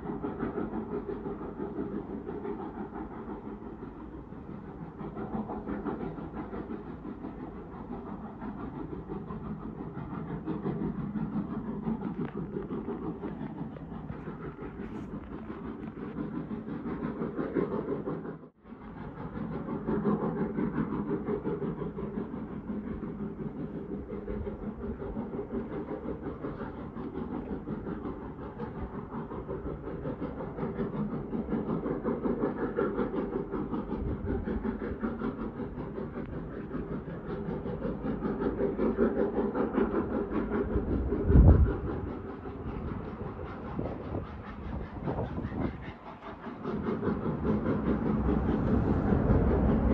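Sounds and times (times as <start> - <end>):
distant steam locomotive exhaust beats: 0.0 - 49.9.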